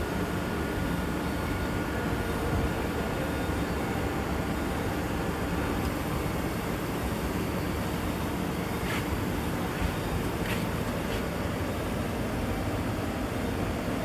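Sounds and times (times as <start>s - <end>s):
factory machinery drone: 0.0s - 14.0s.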